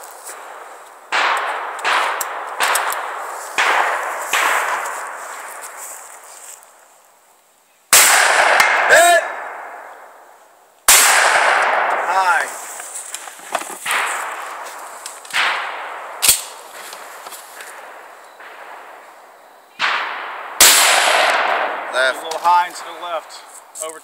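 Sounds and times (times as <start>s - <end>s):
shotgun shots echoing: 0.3s - 5.8s, 7.9s - 10.2s, 10.9s - 12.8s, 13.8s - 23.5s.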